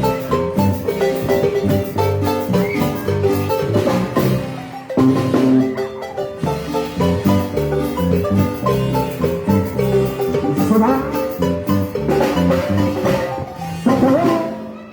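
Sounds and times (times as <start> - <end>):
bass line: 0.0 - 14.8
light percussion: 0.0 - 14.9
marimba ensemble playing: 0.0 - 14.9.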